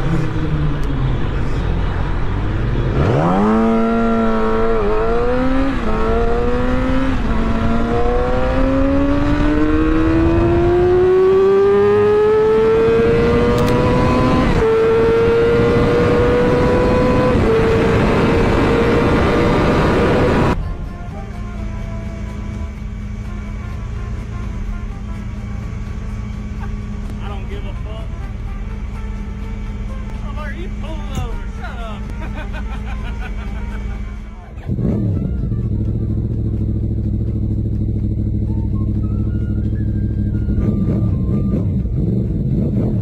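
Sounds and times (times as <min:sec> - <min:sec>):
motorcycle engine accelerating: 0:00.0 - 0:20.6, 0:21.4 - 0:43.0.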